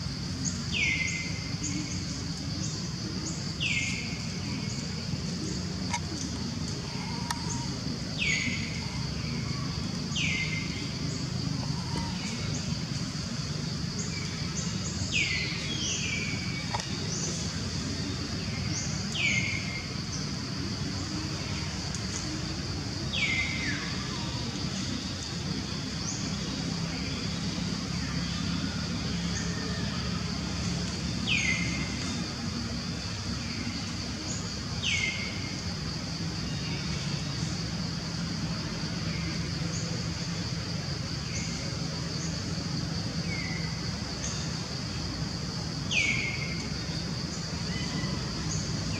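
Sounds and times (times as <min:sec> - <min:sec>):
high-pitched insect drone: 0:00.0 - 0:48.9.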